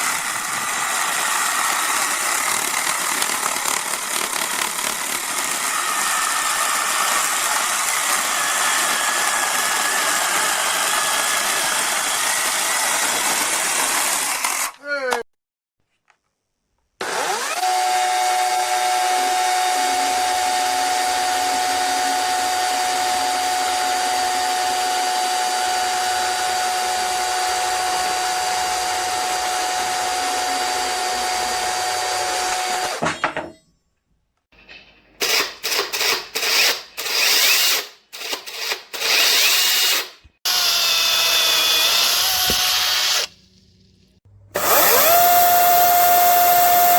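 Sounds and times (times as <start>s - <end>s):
electric chainsaw whining: 0.0s - 14.8s, 17.0s - 33.0s, 35.2s - 43.9s, 44.6s - 46.9s.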